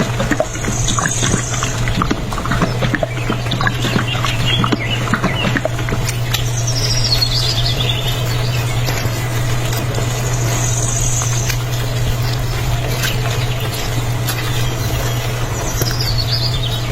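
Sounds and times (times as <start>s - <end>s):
birds chirping: 0.0s - 16.9s
steady low hum: 0.0s - 16.9s.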